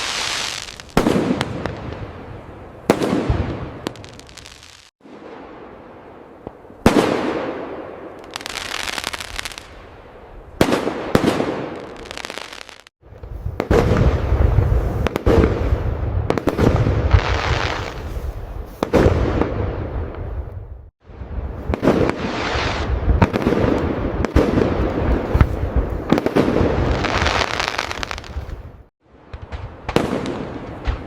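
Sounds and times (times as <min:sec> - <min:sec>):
fireworks crackling: 0:00.0 - 0:04.9, 0:08.2 - 0:09.8, 0:10.6 - 0:19.7, 0:21.4 - 0:31.0
fireworks booming: 0:00.0 - 0:10.0, 0:10.6 - 0:31.0.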